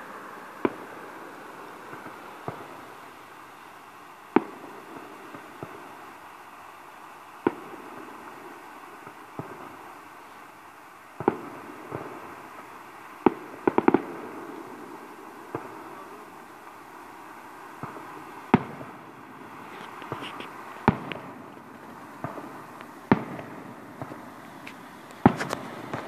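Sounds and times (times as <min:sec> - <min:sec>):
faint firework crackle: 0:00.0 - 0:26.0
firework shells bursting: 0:00.0 - 0:26.0.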